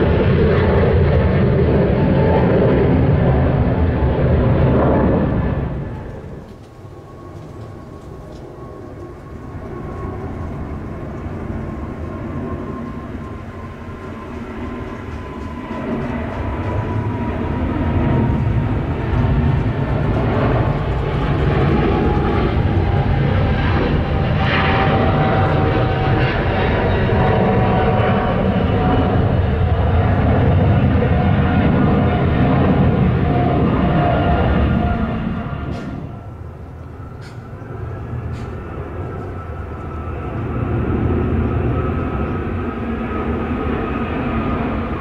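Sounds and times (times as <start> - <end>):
jet airliner climbing: 0.0 - 45.0.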